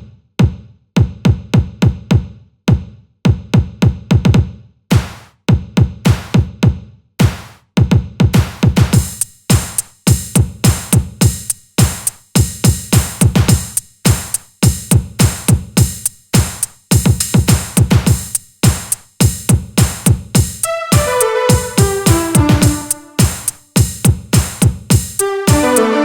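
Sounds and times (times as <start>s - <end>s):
drum machine beat: 3.6s - 26.0s.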